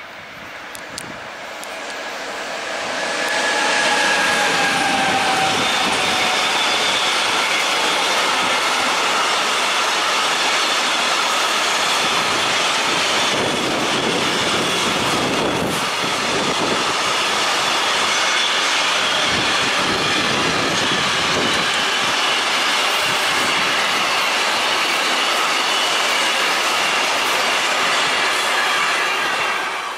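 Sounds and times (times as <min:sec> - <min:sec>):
train wheels rushing on rail: 0:00.0 - 0:29.9
high wheel squeal: 0:01.5 - 0:29.9.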